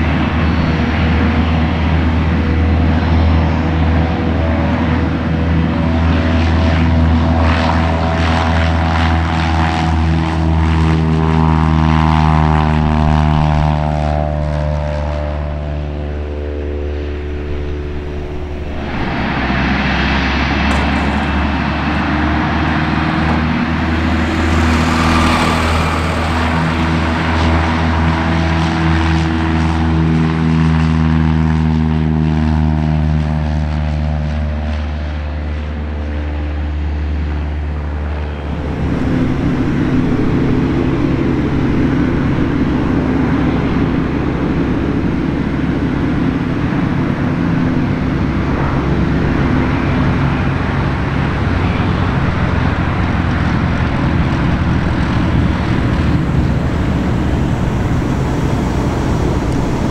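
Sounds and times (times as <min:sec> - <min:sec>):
light aircraft approaching to land: 0:00.0 - 0:59.9
light aircraft engine at full power: 0:00.0 - 0:59.9.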